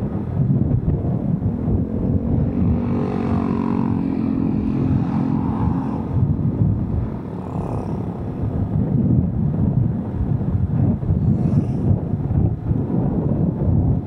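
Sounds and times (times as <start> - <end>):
motorcycle engine humming: 0.0 - 14.0
wind buffeting microphone: 0.0 - 14.0.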